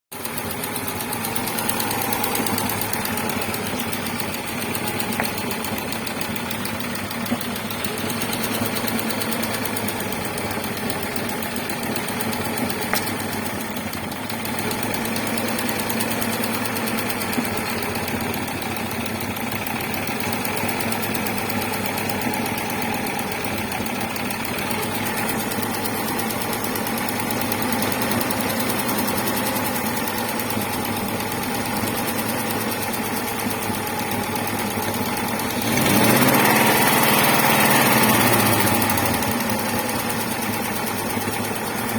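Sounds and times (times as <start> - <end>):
car engine idling with a knock: 0.2 - 36.1.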